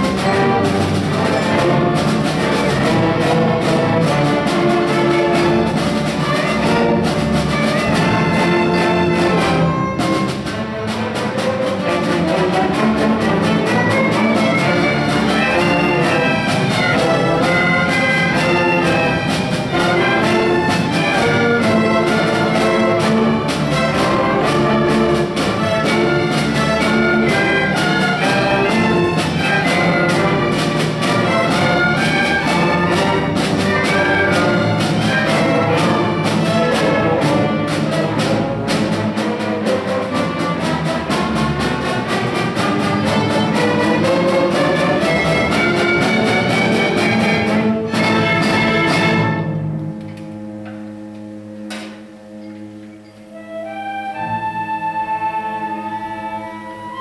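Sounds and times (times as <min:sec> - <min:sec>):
brass: 0:00.0 - 0:49.8
strings: 0:00.0 - 0:57.0
woodwinds: 0:00.0 - 0:57.0.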